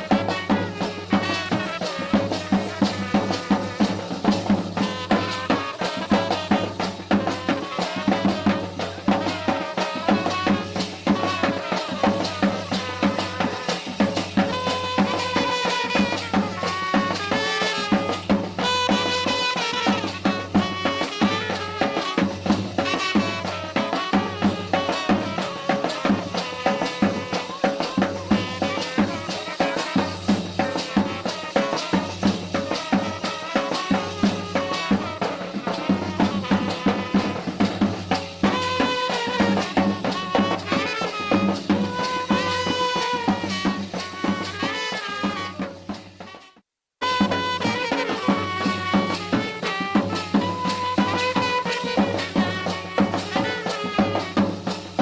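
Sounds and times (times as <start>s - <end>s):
rattling percussion: 0.0s - 46.4s, 47.0s - 55.0s
brass band wind melody: 0.0s - 55.0s
fast drumming: 0.0s - 55.0s.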